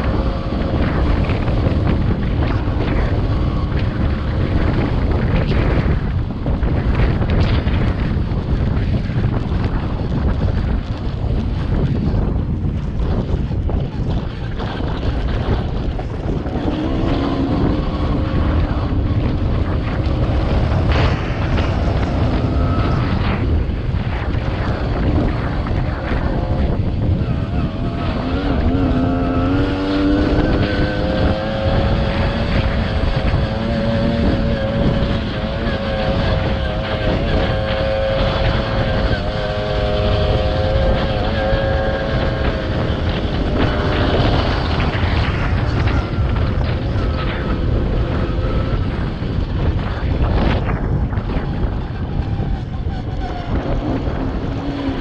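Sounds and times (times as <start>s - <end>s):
two-stroke motorbike engine: 0.0s - 55.0s
wind buffeting microphone: 0.0s - 55.0s.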